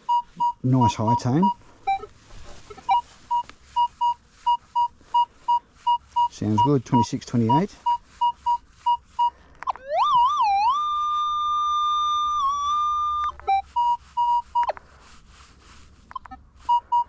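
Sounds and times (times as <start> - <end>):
metal detector gliding tone: 0.0 - 2.1, 2.7 - 14.8, 16.1 - 17.0
metal detector short beeps: 0.0 - 2.1, 2.8 - 14.8, 16.1 - 17.0.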